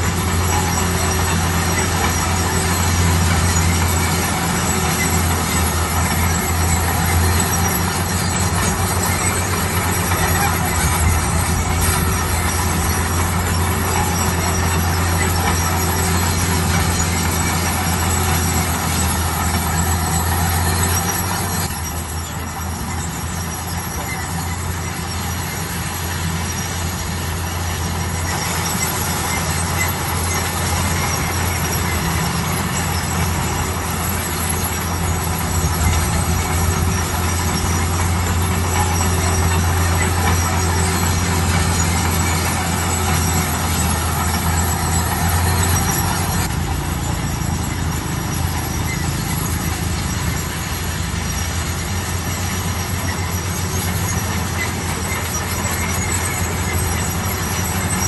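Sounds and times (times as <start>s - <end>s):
bulldozer diesel engine running: 0.0s - 58.0s
metallic track clatter and squeal: 0.0s - 58.0s.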